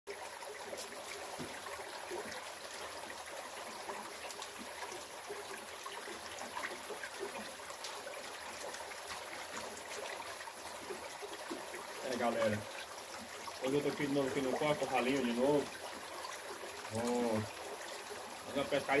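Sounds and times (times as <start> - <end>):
river water trickling: 0.1 - 19.0.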